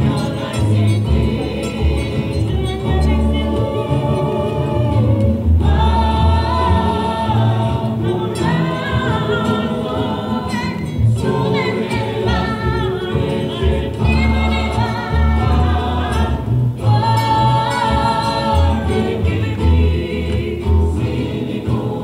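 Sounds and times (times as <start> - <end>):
choir singing in harmony: 0.0 - 22.0
strummed guitars and mandolins: 0.0 - 22.0.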